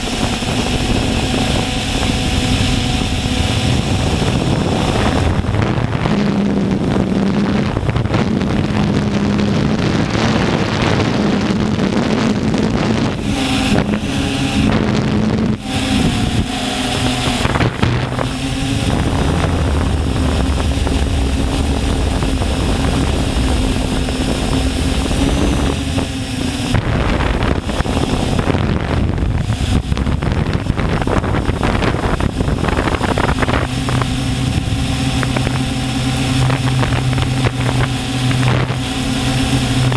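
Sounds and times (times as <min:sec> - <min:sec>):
drone propellers buzzing: 0:00.0 - 0:39.9
wind on microphone: 0:00.0 - 0:39.9.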